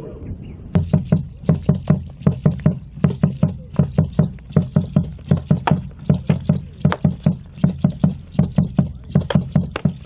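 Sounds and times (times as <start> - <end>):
drum beaten in fast rhythm: 0.8 - 10.0.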